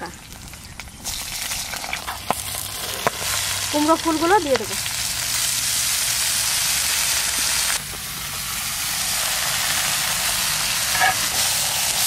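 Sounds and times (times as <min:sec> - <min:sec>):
flowers sizzling in hot oil: 0:00.0 - 0:12.0.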